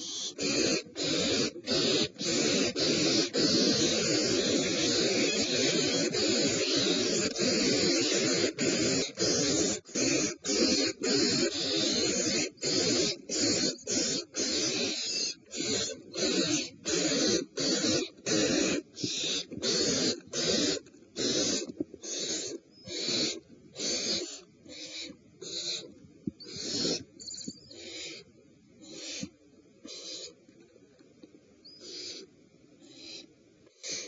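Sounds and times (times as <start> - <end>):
owl nestlings hissing calls: 0.0 - 30.4, 31.6 - 34.0.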